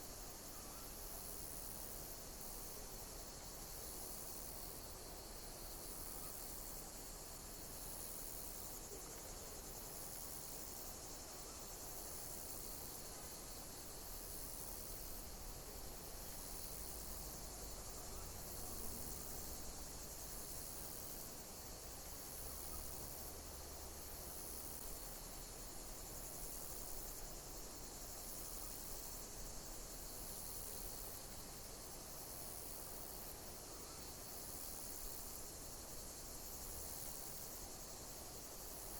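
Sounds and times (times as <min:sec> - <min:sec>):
insects chirping: 0:00.0 - 0:38.9
pulsing insect chirp: 0:00.1 - 0:38.9.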